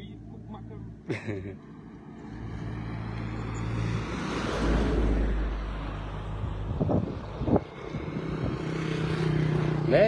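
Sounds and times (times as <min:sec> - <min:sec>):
low engine hum: 0:00.0 - 0:10.0
vehicle passing by: 0:01.7 - 0:10.0.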